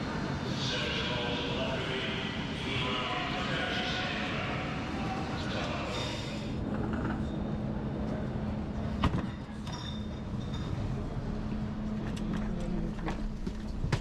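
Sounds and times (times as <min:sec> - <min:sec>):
train electric hum: 0:00.0 - 0:14.0.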